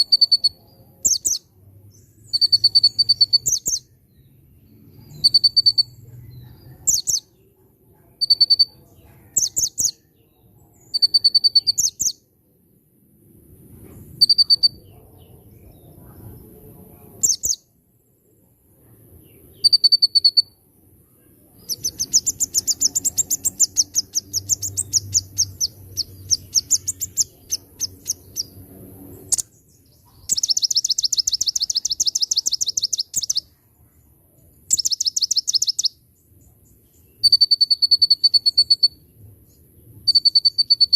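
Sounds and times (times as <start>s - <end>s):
songbird chirping and trilling: 0.0s - 13.4s, 14.2s - 40.9s.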